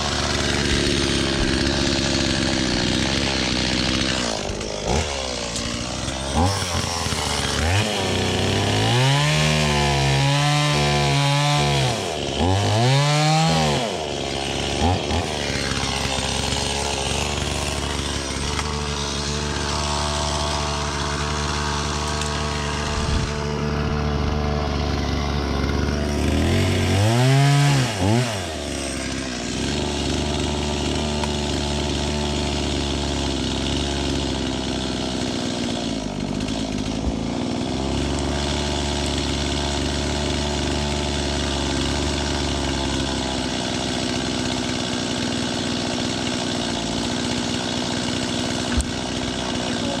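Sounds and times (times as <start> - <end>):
chainsaw engine running and revving: 0.0 - 50.0.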